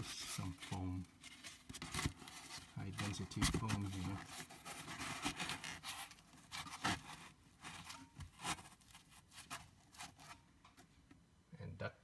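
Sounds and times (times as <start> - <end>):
foam scraping and rustling: 0.0 - 10.4.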